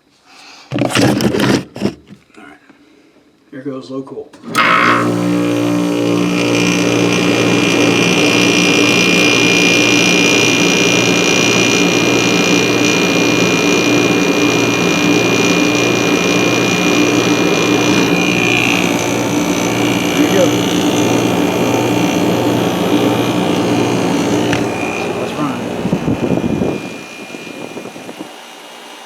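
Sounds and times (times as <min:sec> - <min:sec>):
air conditioner humming: 0:04.3 - 0:29.0
high whine: 0:04.4 - 0:29.0.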